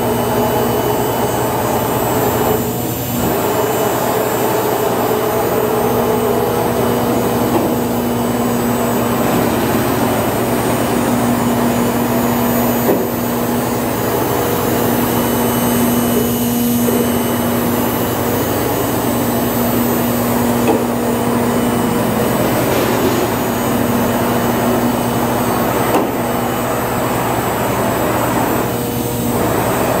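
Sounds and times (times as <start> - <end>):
router machine running: 0.0 - 30.0.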